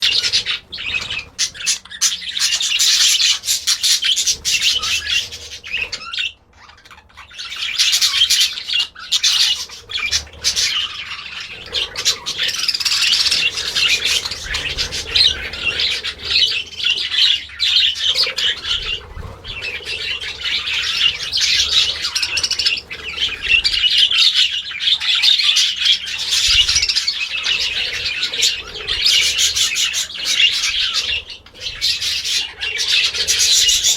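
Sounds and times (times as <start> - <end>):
flock of birds chirping and squawking: 0.0 - 33.9.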